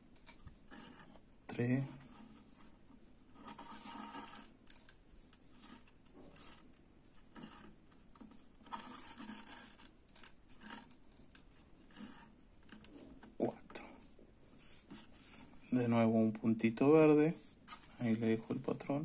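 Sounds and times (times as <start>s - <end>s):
thread rustling and scraping: 0.0s - 15.6s, 17.0s - 19.0s.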